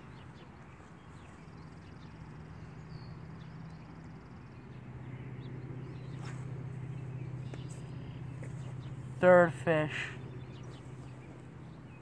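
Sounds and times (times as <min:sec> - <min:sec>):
low motor-like hum: 0:00.0 - 0:12.0.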